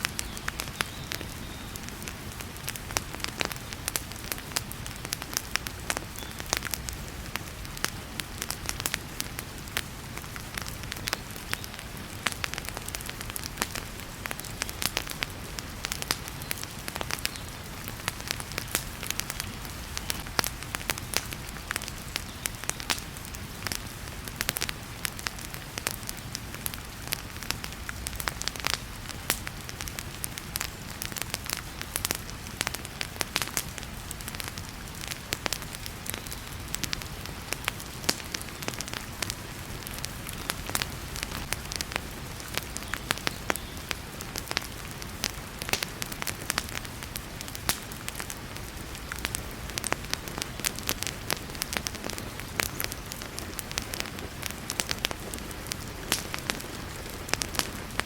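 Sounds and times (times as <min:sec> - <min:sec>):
heavy rain: 0:00.0 - 0:58.0
wood fire crackling and popping: 0:00.0 - 0:58.0.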